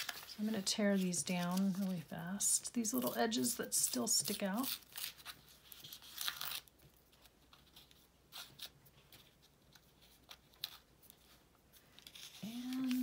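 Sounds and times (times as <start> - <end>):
paper handling: 0.0 - 2.2, 3.0 - 13.0.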